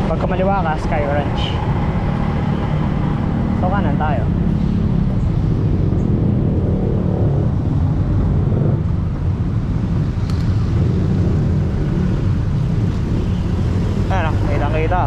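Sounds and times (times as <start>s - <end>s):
road traffic: 0.0s - 15.0s
wind buffeting microphone: 0.0s - 15.0s.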